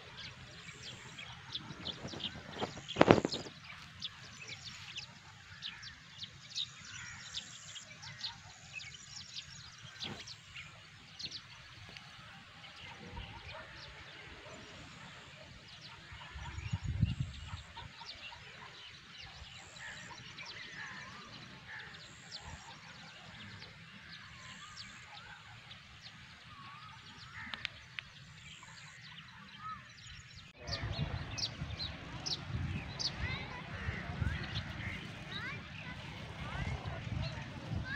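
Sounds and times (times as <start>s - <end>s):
open field background: 0.0s - 37.9s
small birds chirping: 0.0s - 37.9s.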